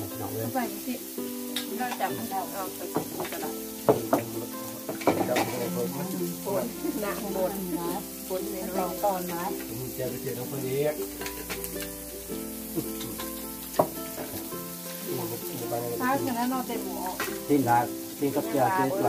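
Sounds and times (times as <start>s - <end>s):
background music with held notes: 0.0s - 19.0s
meat sizzling on a grill: 0.0s - 19.0s.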